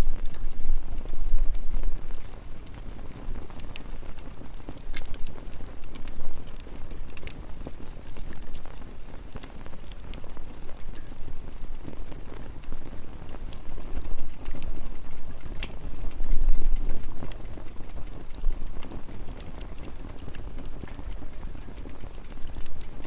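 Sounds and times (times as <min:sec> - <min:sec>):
fire low rumble: 0:00.0 - 0:23.0
firewood crackling and popping: 0:00.0 - 0:23.0.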